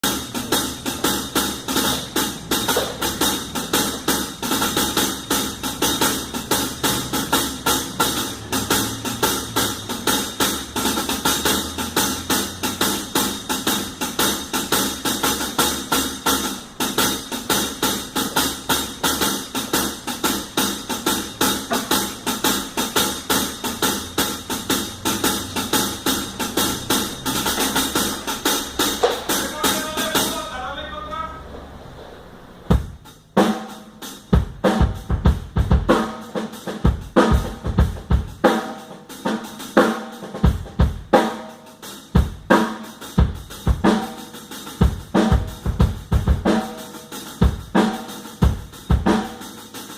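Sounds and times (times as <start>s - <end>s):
drum kit beat: 0.0s - 31.4s, 32.7s - 49.9s.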